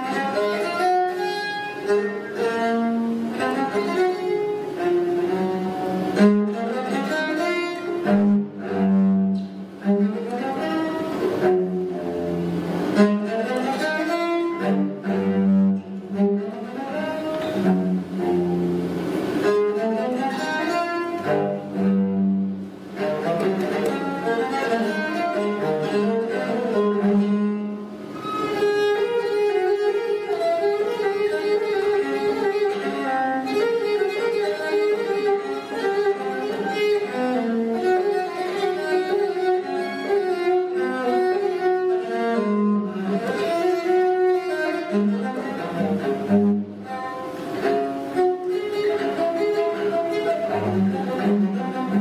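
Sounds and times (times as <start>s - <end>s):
solo cello playing quick bowed notes: 0.0s - 52.0s.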